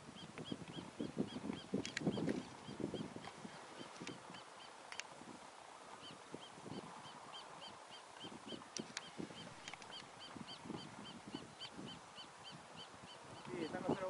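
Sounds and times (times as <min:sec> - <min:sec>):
lower bird calls: 0:00.0 - 0:05.0, 0:05.8 - 0:14.0.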